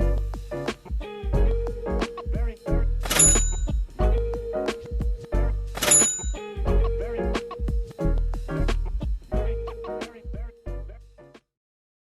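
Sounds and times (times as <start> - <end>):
music with steady percussive beat: 0.0 - 11.5.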